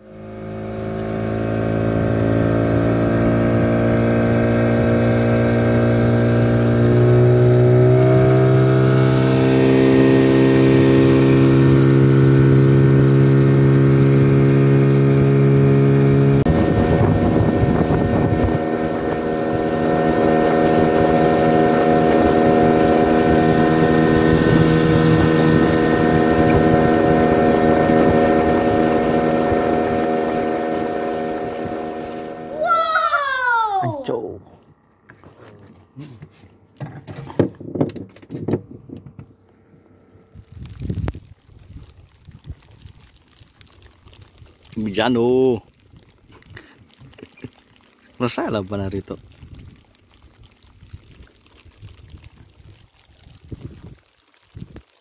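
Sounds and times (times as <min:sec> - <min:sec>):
outboard motor running: 0:00.0 - 0:53.9.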